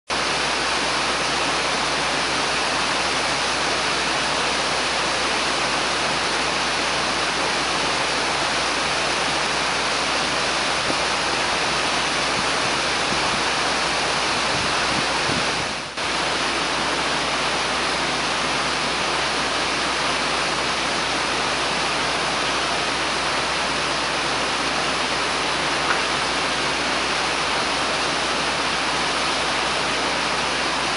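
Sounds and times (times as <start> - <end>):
waterfall rushing into pool: 0.1 - 30.9.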